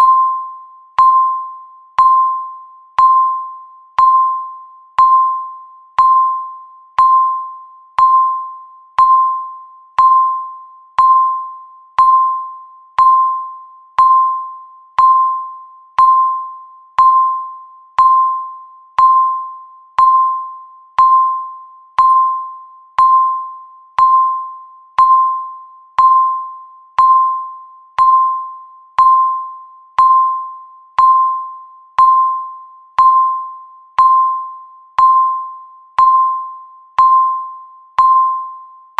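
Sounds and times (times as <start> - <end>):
electronic timer beeps: 0.0 - 38.9.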